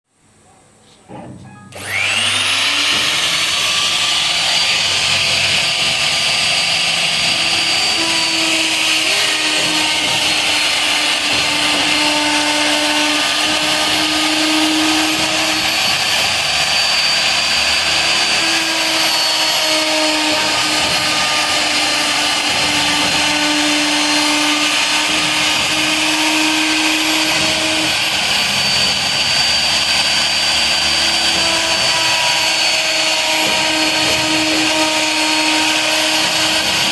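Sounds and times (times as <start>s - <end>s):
router spindle whining: 1.7s - 36.9s.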